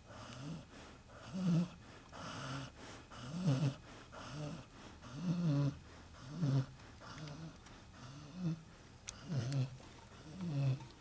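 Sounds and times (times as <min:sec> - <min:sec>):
dog snoring: 0:00.0 - 0:10.9.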